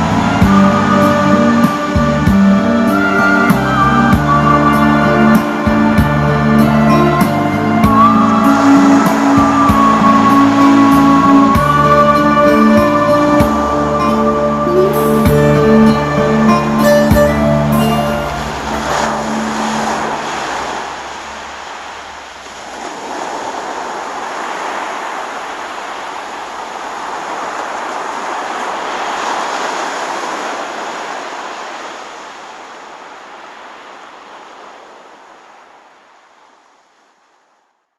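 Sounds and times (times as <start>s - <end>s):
ocean waves washing on shore: 0.0s - 37.9s.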